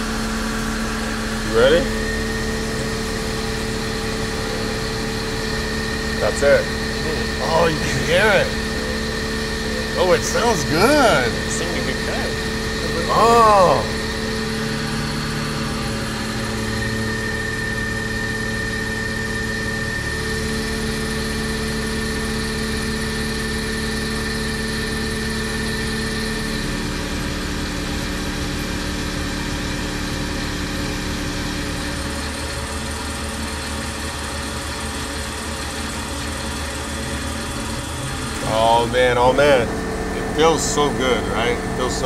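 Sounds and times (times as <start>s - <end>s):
high-pitched machine whine: 0.0s - 42.0s
milling machine drone: 0.0s - 42.0s.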